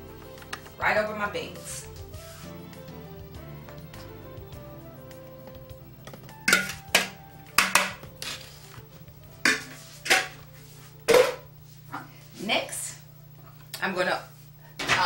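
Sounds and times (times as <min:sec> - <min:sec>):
soft background music: 0:00.0 - 0:14.5.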